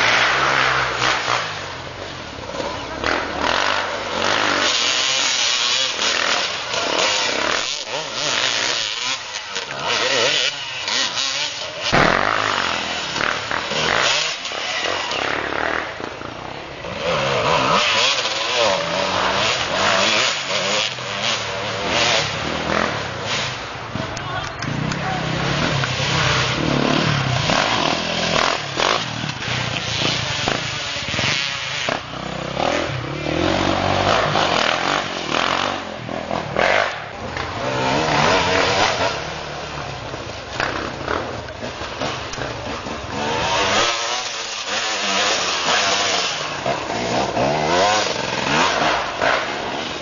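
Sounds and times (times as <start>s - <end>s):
dirt bikes revving: 0.0s - 50.0s.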